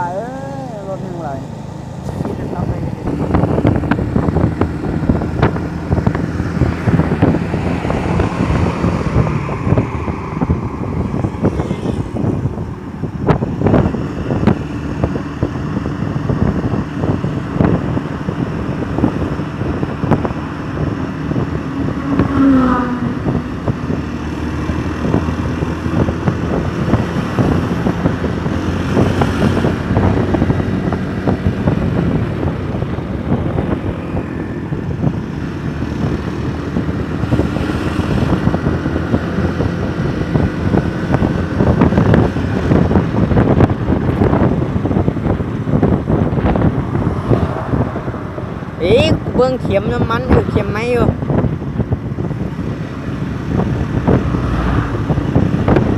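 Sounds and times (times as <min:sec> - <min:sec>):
road noise: 0:00.0 - 0:55.9
vehicle engine running: 0:00.0 - 0:55.9
wind buffeting microphone: 0:00.0 - 0:55.9.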